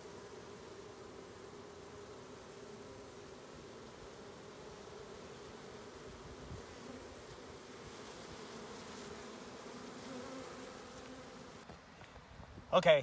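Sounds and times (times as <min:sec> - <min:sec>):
swarm of bees buzzing: 0:00.0 - 0:11.9.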